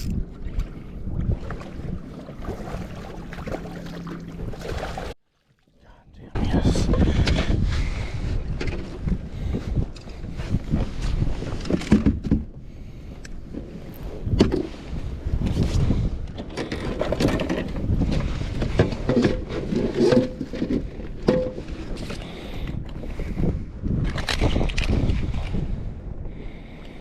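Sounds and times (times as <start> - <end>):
wind rumbling on microphone: 0.0 - 5.2, 5.8 - 27.0.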